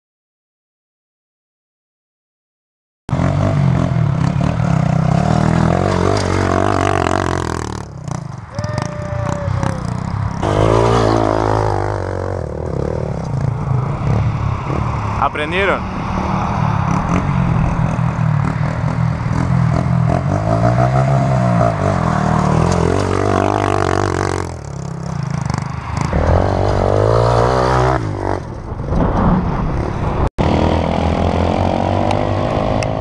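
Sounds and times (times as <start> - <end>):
dirt bike engine revving: 3.1 - 28.5, 30.4 - 33.0.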